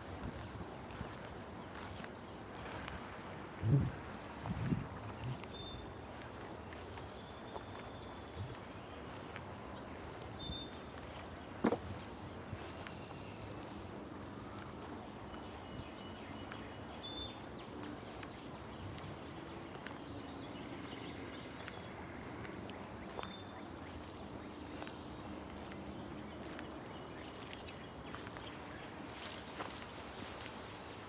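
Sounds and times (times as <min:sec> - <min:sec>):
songbirds singing: 0:00.0 - 0:31.0.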